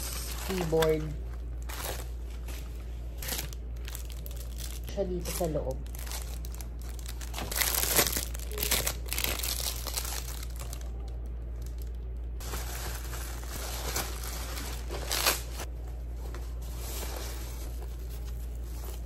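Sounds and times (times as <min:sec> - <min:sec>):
plastic packaging crinkling: 0:00.0 - 0:15.7.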